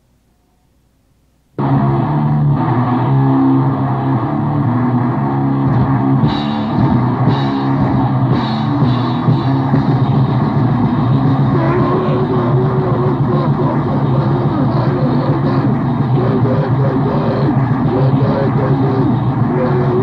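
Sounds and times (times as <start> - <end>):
distorted guitar: 0.0 - 20.0
drums: 1.5 - 20.0.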